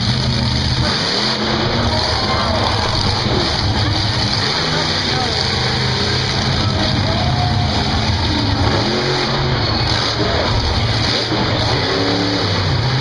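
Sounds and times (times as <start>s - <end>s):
loud steady rush of noise: 0.0s - 13.0s
monster truck engine revving: 0.0s - 13.0s.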